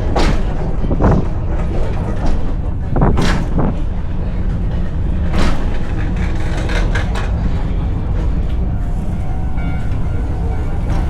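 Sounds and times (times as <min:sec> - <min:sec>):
funicular car low rumble: 0:00.0 - 0:11.0.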